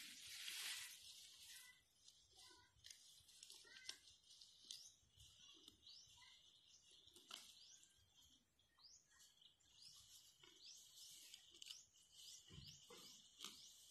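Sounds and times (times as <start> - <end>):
cow cropping grass: 0.0 - 8.4, 9.0 - 13.9.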